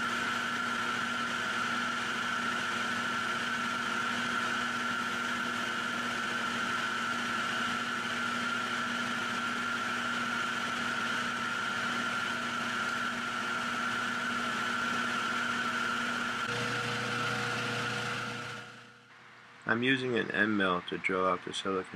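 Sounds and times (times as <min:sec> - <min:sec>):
machine humming with high whine: 0:00.0 - 0:19.7.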